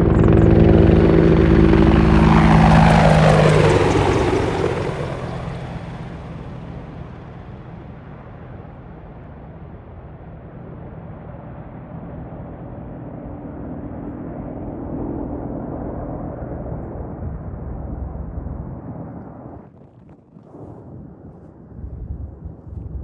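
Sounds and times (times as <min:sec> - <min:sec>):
helicopter rotors and engines: 0:00.0 - 0:20.7.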